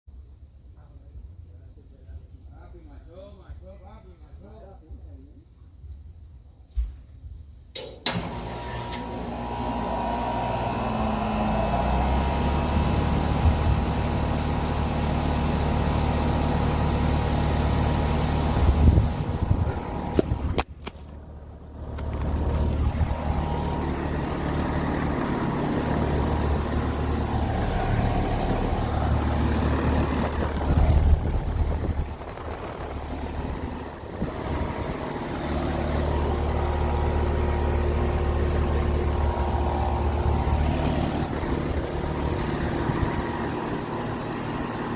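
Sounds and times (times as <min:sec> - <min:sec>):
heat pump humming: 0:07.8 - 0:44.9.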